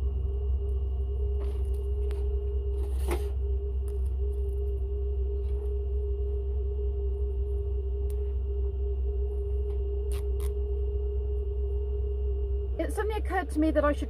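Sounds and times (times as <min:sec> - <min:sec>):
constant mid-pitched tone: 0:00.0 - 0:14.0
low mechanical hum: 0:00.0 - 0:14.0.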